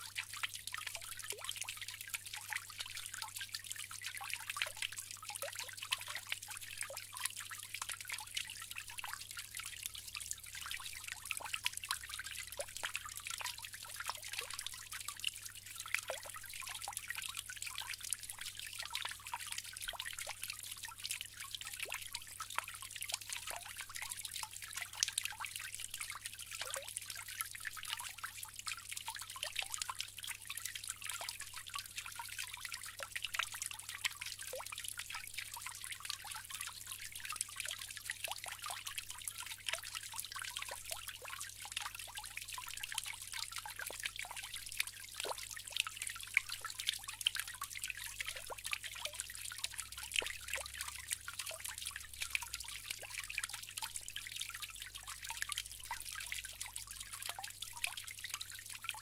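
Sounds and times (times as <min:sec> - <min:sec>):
water trickling from fountain: 0:00.0 - 0:59.0.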